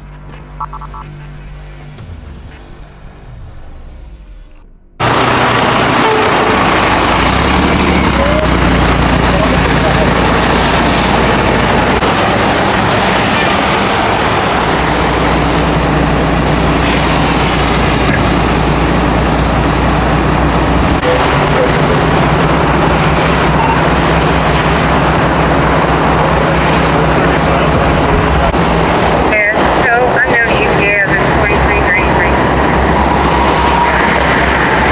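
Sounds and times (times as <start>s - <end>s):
constant rushing noise: 0.0s - 34.9s
vehicle engine idling: 0.0s - 34.9s.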